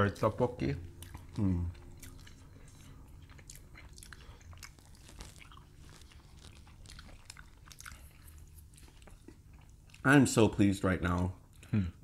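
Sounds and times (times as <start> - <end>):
close-miked chewing: 0.0 - 12.0.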